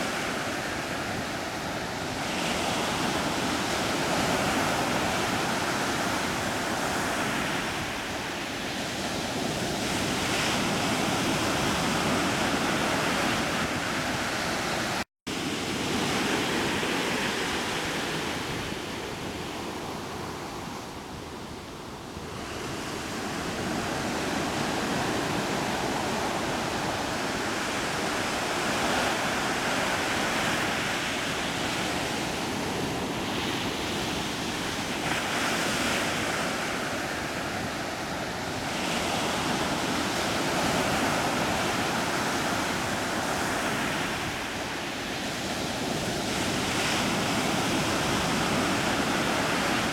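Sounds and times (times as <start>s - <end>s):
ocean waves: 0.0s - 49.9s.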